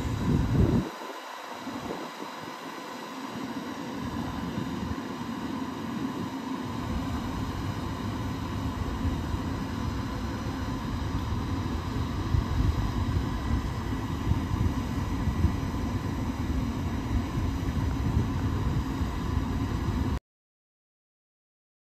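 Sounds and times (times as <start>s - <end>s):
high electrical whine: 0.0s - 20.2s.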